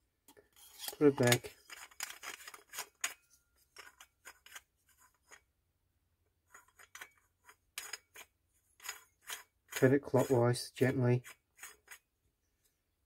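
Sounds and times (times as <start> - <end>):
metal parts clicking and scraping: 0.5 - 5.4, 6.5 - 12.1.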